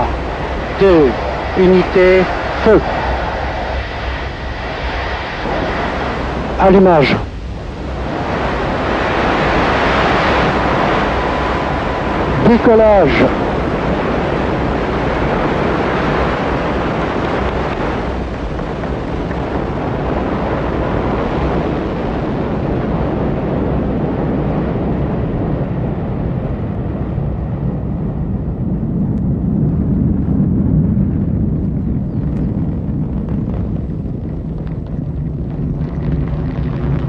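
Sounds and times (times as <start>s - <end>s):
rocket engine rumbling: 0.0s - 37.0s.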